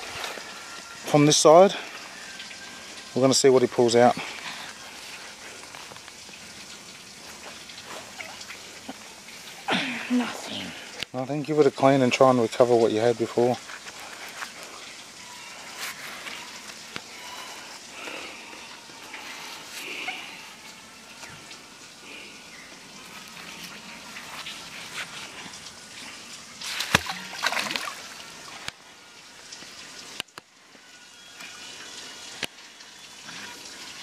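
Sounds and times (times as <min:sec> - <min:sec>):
creek water sloshing and trickling: 0:00.0 - 0:34.0.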